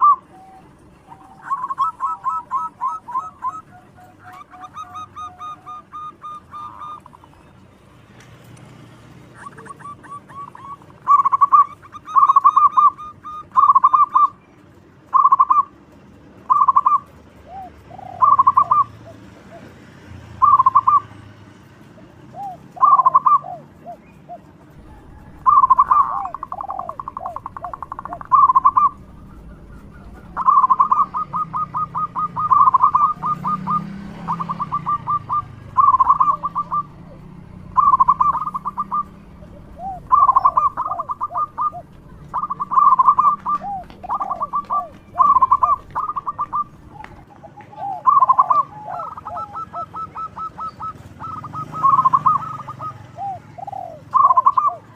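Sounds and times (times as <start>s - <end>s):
dove cooing: 0.0s - 7.9s, 9.2s - 14.4s, 15.1s - 15.8s, 16.4s - 19.8s, 20.4s - 21.2s, 22.0s - 54.9s.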